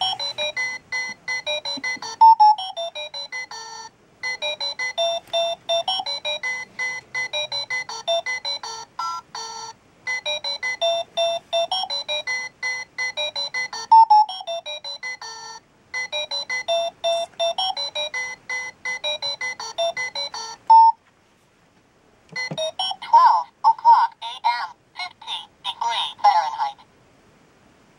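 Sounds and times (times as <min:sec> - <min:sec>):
alarm clock beeping tune: 0:00.0 - 0:20.9, 0:22.4 - 0:25.1.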